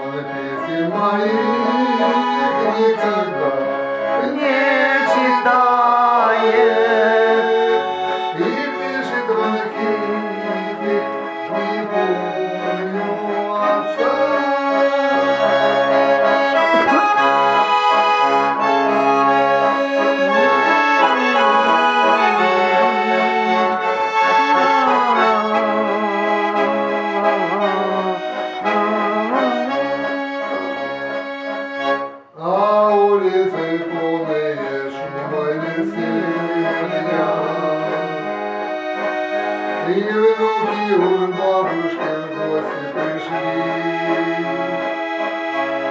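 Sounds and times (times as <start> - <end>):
button accordion playing a melody: 0.0 - 45.9.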